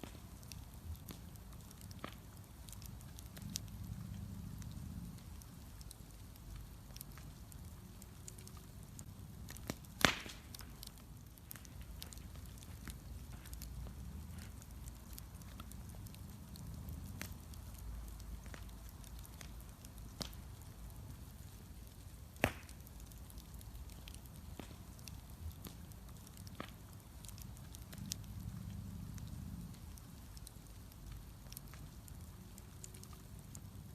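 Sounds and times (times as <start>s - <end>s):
flame rumble: 0.0s - 33.9s
small crackles of fire: 0.0s - 33.9s.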